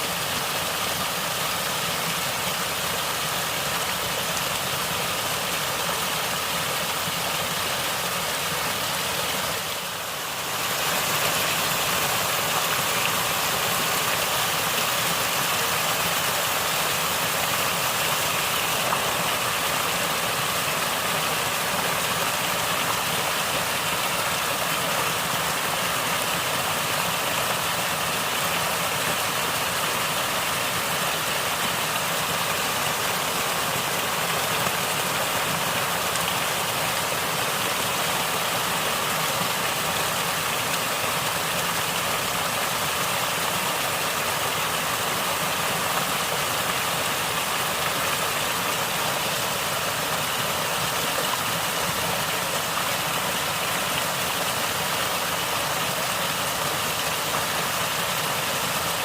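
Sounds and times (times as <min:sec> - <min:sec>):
water flowing and gurgling: 0:00.0 - 0:59.0.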